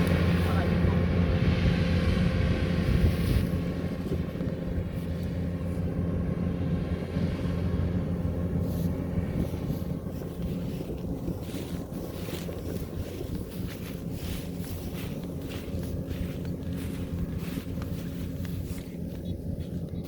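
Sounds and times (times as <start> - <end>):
harvester engine humming: 0.0 - 20.0.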